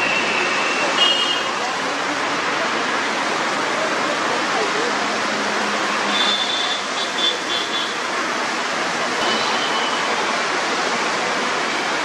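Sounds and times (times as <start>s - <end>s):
traffic on a wet road: 0.0s - 12.0s.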